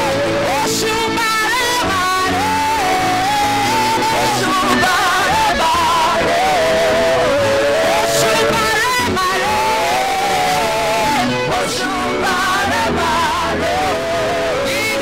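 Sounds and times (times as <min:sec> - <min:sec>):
choir singing gospel song: 0:00.0 - 0:15.0
instrumental backing: 0:00.0 - 0:15.0.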